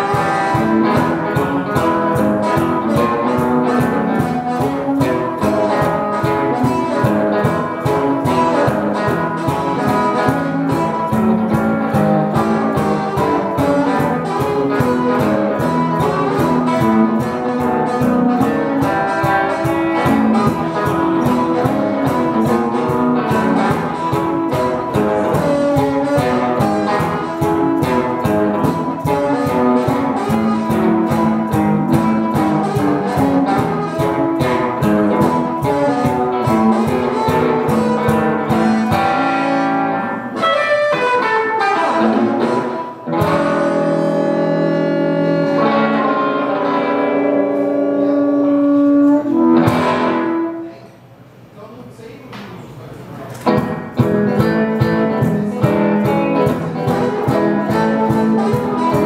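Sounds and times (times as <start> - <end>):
blues harmonica: 0.0 - 50.6, 53.6 - 59.0
electric guitar: 0.0 - 51.1, 53.3 - 59.0.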